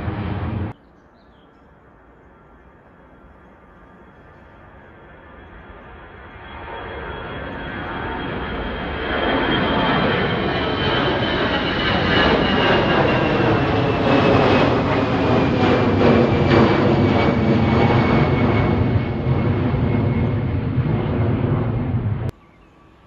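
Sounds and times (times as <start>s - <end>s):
jet airliner engines at takeoff: 0.0s - 23.0s.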